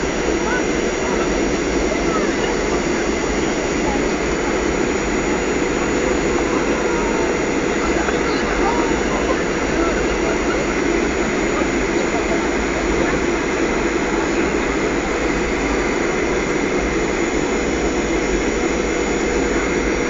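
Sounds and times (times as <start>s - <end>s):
jet engine and airflow noise in cabin: 0.0s - 20.0s.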